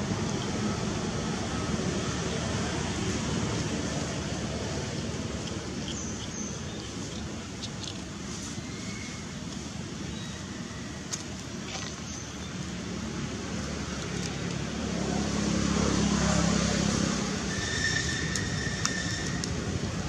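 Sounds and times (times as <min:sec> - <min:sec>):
vehicle engine hum passing: 0:00.0 - 0:08.5, 0:11.7 - 0:20.0
outdoor background noise: 0:00.0 - 0:20.0.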